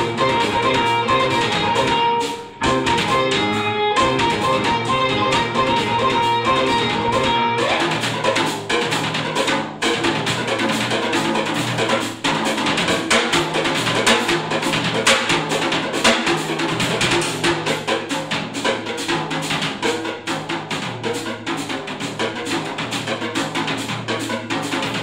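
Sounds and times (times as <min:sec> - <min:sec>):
fast drum strikes: 0:00.0 - 0:25.0
jazz trio playing: 0:00.0 - 0:25.0.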